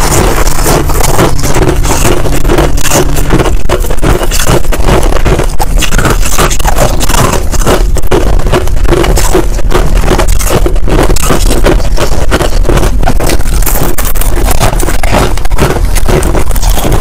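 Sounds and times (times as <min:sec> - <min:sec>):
ice crunching while chewed: 0:00.0 - 0:17.0.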